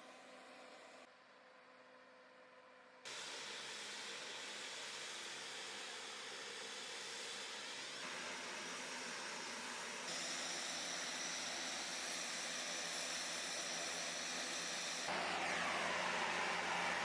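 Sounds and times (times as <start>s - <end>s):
drone turboprop engine whine: 3.0s - 17.0s.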